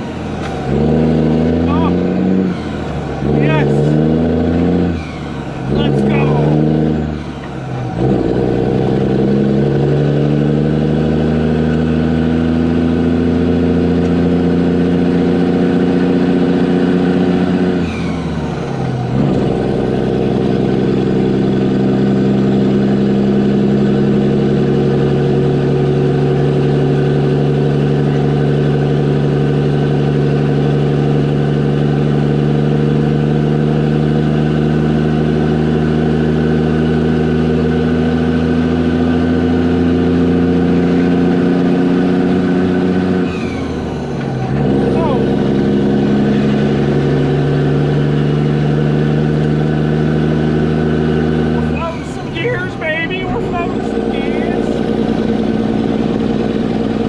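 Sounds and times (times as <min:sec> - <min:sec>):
diesel truck engine pulling hard: 0:00.0 - 0:57.0.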